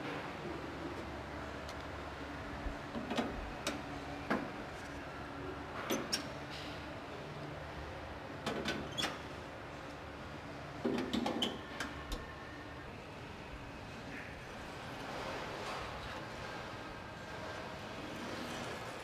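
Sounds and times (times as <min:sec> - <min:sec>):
steady factory hum: 0:00.0 - 0:19.0.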